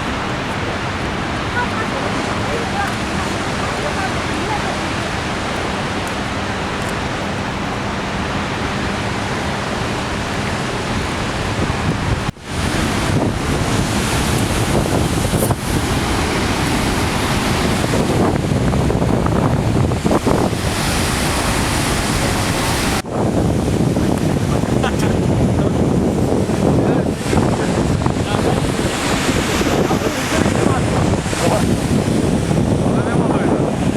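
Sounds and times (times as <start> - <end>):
waterfall roaring: 0.0 - 33.9
wind buffeting microphone: 0.0 - 33.9.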